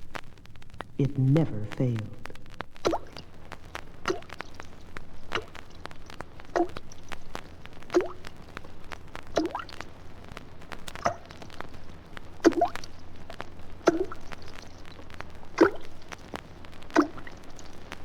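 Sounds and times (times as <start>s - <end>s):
water droplets dripping: 2.6s - 10.0s, 10.8s - 18.0s.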